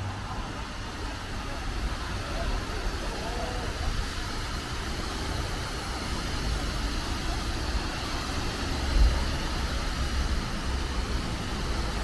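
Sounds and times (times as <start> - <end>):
fountain water splashing: 0.0 - 12.0
low rumble of city traffic: 0.0 - 12.0.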